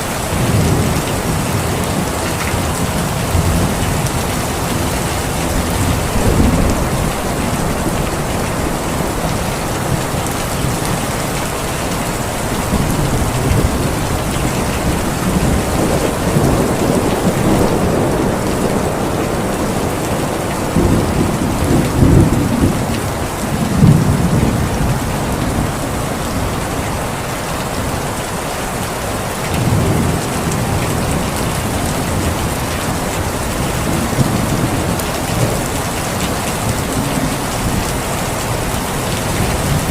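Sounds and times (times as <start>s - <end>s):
steady rain falling: 0.0s - 39.9s
low rolling thunder: 0.2s - 26.6s, 29.5s - 39.9s.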